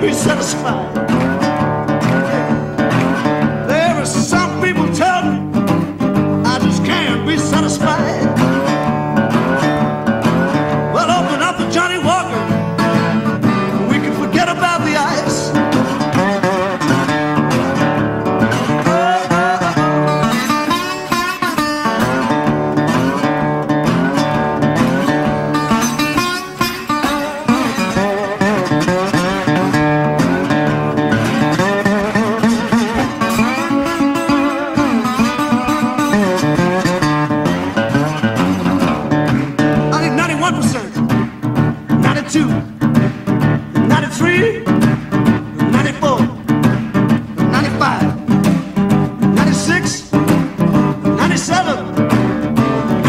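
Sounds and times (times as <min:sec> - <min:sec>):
acoustic guitar: 0:00.0 - 0:53.0
man singing blues: 0:00.0 - 0:53.0.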